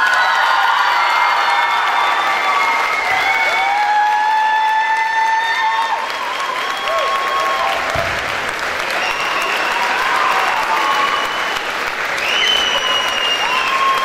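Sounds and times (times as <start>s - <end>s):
audience applauding: 0.0s - 14.0s
high cheering calls: 0.0s - 14.0s.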